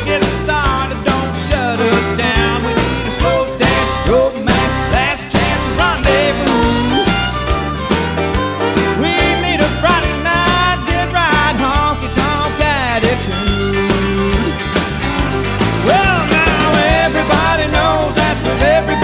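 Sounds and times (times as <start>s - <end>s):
rock song with singing: 0.0s - 19.0s.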